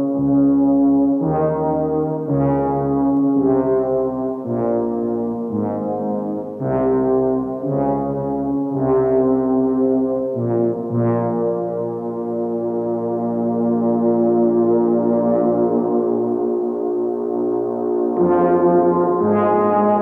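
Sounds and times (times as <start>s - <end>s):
slow low brass notes: 0.0s - 20.0s.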